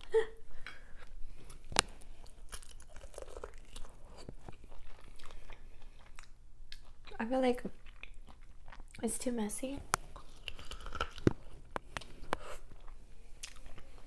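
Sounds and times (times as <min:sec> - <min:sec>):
person chewing corn on the cob: 0:00.5 - 0:09.0, 0:09.9 - 0:14.0.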